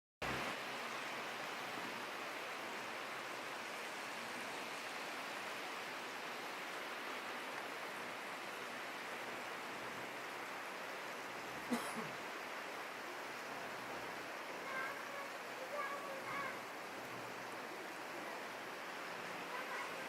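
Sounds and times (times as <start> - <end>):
waterfall rushing: 0.2 - 20.0.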